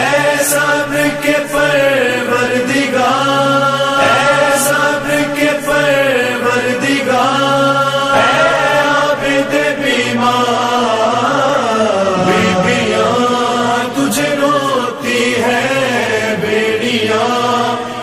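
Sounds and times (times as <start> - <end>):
man chanting over loudspeakers: 0.0 - 18.0.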